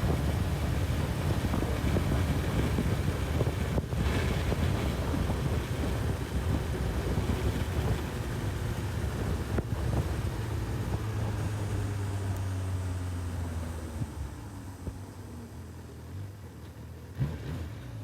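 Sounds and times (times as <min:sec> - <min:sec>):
wind rushing over microphone: 0:00.0 - 0:15.1
motorcycle engine running: 0:00.0 - 0:15.6.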